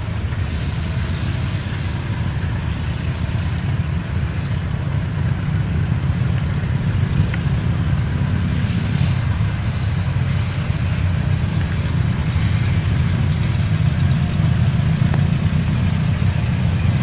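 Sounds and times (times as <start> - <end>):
low rumble of train running: 0.0 - 17.0.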